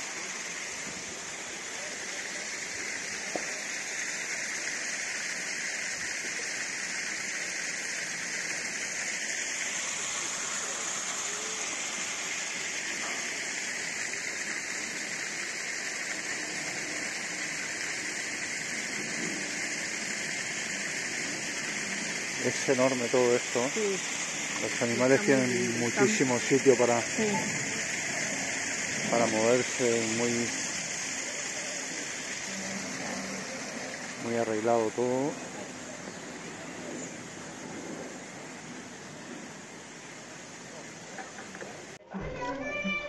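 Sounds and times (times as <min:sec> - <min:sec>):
running water rushing: 0:00.0 - 0:43.0.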